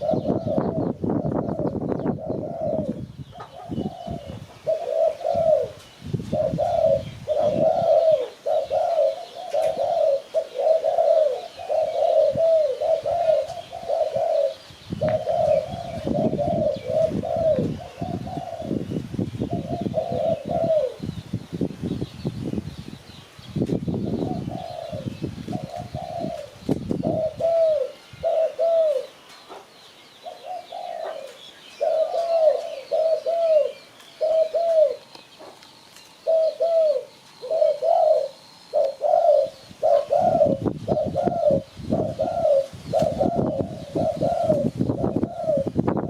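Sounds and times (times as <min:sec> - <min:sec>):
dove cooing: 0:00.0 - 0:21.2, 0:24.0 - 0:35.6, 0:36.2 - 0:46.0.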